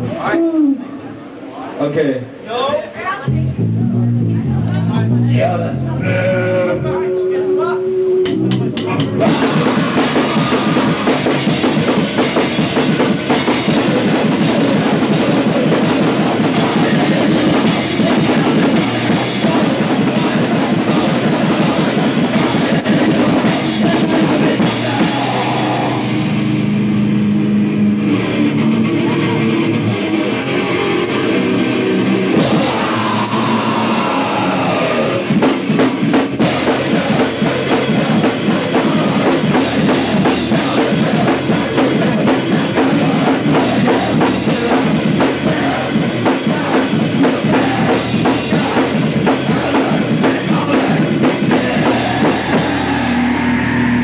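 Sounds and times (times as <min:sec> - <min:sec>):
punk band playing live: 0:03.2 - 0:54.0.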